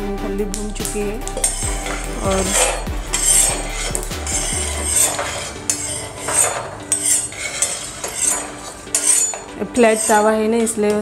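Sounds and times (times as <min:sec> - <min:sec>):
metal spatula scraping griddle: 0:01.2 - 0:10.8.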